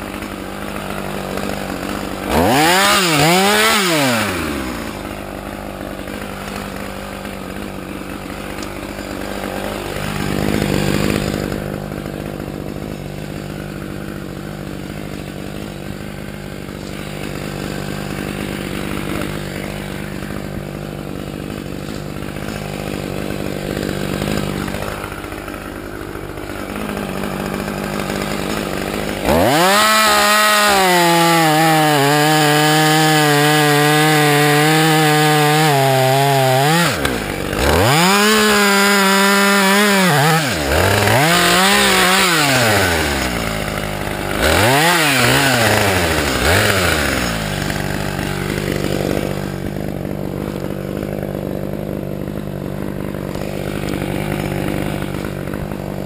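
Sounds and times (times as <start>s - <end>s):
chainsaw cutting log: 0.0s - 56.0s
chainsaw idling: 0.0s - 56.0s.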